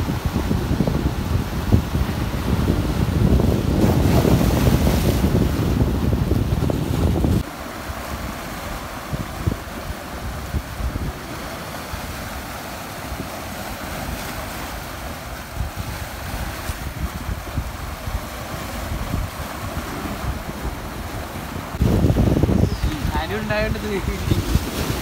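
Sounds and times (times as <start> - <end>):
waves washing: 0.0 - 25.0
wind buffeting microphone: 0.0 - 25.0.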